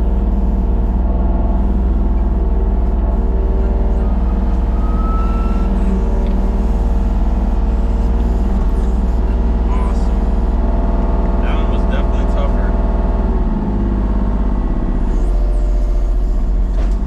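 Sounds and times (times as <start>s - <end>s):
large engine droning steadily: 0.0s - 17.0s.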